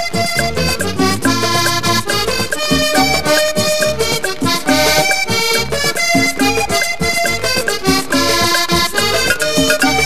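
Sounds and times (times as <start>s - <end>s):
bass: 0.0s - 10.0s
button accordion playing: 0.0s - 10.0s
steady percussion: 0.0s - 10.0s.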